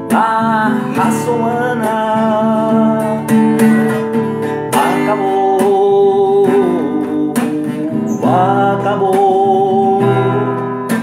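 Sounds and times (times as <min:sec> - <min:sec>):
slow song with acoustic guitar: 0:00.0 - 0:11.0.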